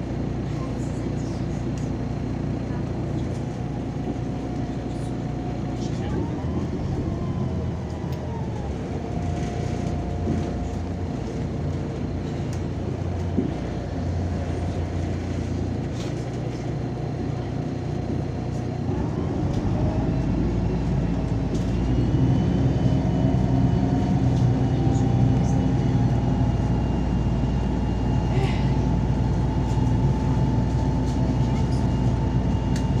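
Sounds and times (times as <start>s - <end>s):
bus engine and road rumble: 0.0s - 33.0s
drivetrain whine: 0.0s - 33.0s.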